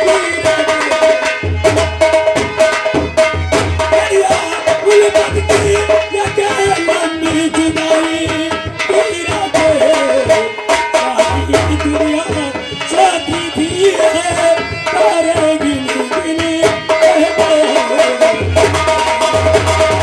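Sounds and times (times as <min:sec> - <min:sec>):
tabla played briskly: 0:00.0 - 0:20.0.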